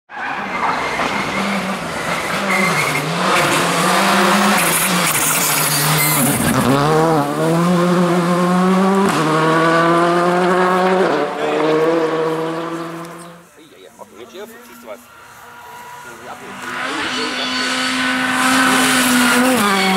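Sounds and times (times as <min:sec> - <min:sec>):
rally car engine at full throttle: 0:00.2 - 0:19.9.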